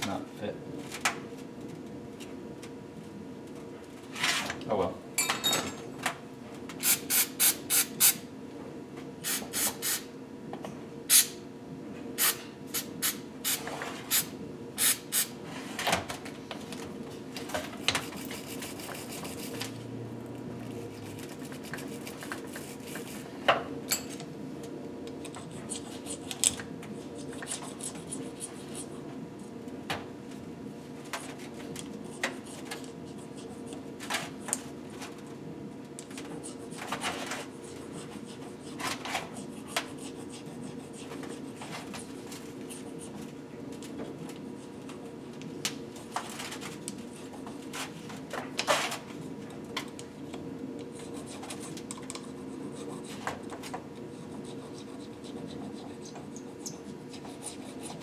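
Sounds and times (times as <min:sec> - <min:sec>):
steady hum: 0:05.9 - 0:58.0.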